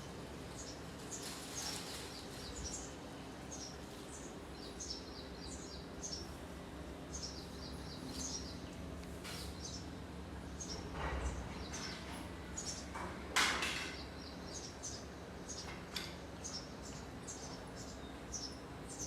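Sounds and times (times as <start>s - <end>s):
small birds chirping: 0.4s - 13.0s, 13.8s - 19.0s.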